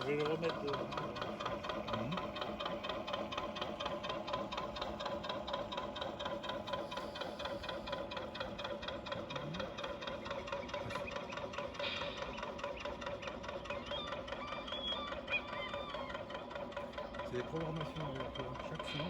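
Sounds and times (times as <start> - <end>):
diesel engine chugging effect: 0.0 - 19.0.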